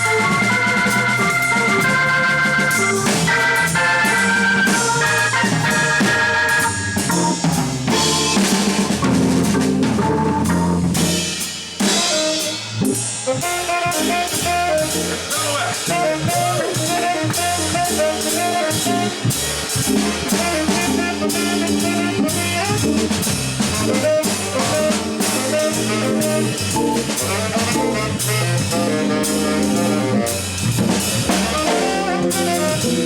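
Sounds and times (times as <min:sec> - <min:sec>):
tenor saxophone: 0:00.0 - 0:09.0, 0:11.8 - 0:33.0
drum kit: 0:00.0 - 0:33.0
organ: 0:00.0 - 0:33.0.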